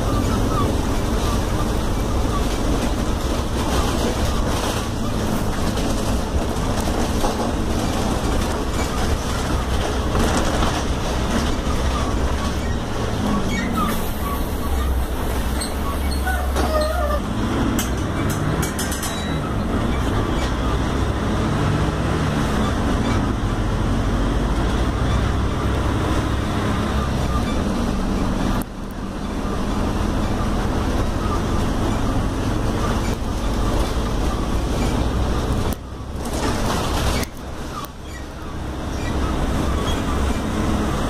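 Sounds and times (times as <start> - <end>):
bus engine: 0.0 - 41.0
road noise: 0.0 - 41.0.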